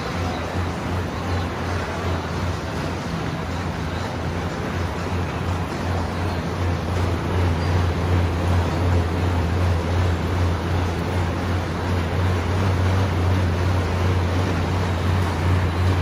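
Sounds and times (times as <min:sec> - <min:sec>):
exercise bike fan whooshing: 0:00.0 - 0:16.0
steady low hum: 0:00.0 - 0:16.0.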